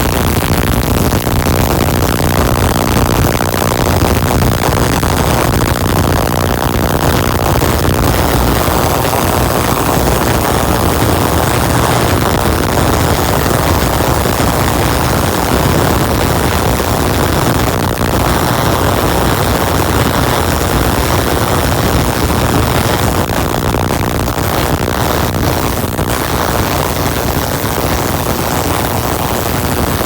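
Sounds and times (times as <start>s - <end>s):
tesla coil buzzing: 0.0s - 30.0s.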